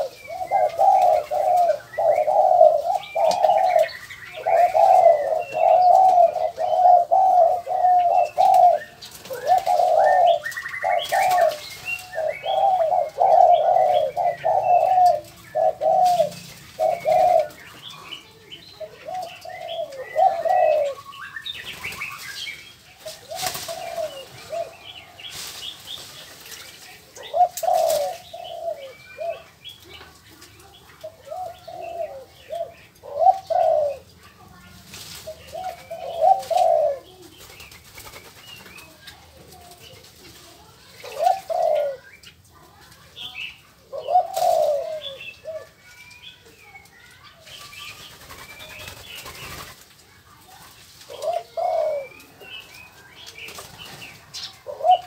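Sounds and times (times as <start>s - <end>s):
doves cooing: 0.0s - 34.3s, 35.0s - 46.0s, 46.6s - 55.0s.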